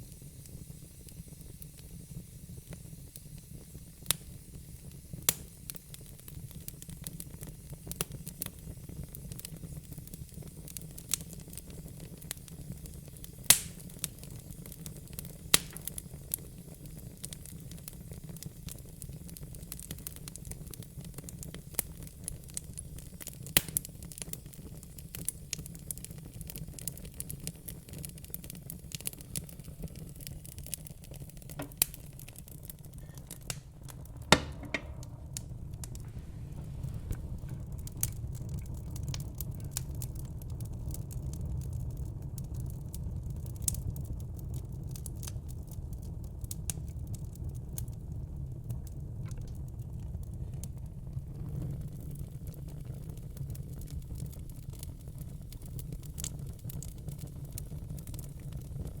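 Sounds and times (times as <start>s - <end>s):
fire crackling and popping: 0.0s - 59.0s
low rumble and hiss of fire: 0.0s - 59.0s.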